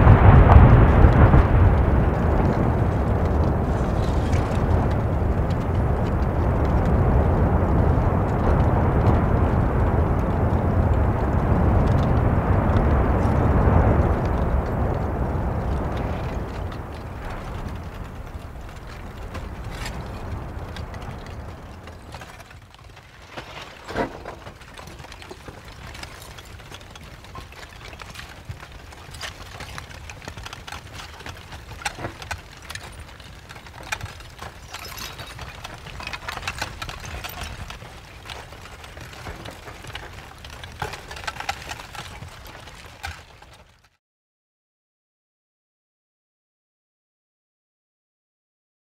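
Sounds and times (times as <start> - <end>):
deep volcanic rumble: 0.0 - 43.8
lava crust crackling and clicking: 0.0 - 44.0.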